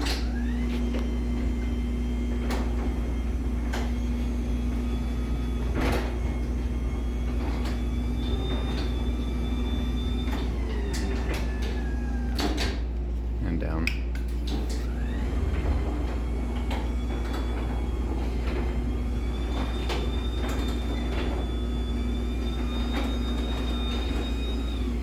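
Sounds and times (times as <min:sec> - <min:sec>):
garage door opener motor whine: 0:00.0 - 0:25.0.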